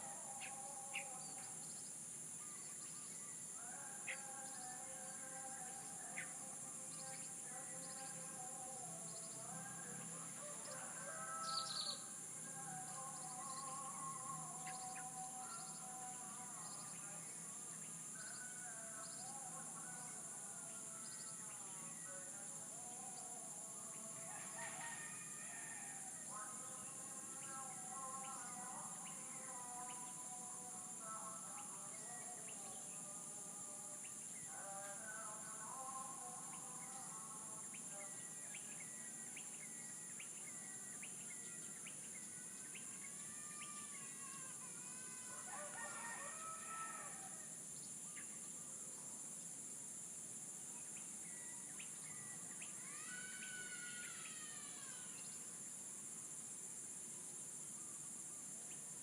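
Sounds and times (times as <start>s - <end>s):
songbirds chirping: 0.0s - 49.6s, 50.2s - 55.8s
high insect drone: 0.0s - 59.0s.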